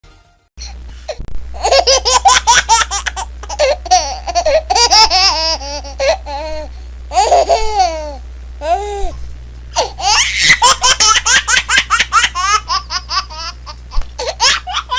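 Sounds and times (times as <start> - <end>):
steady low hum: 0.6 - 14.9
baby laughing: 1.6 - 8.8, 9.8 - 14.9.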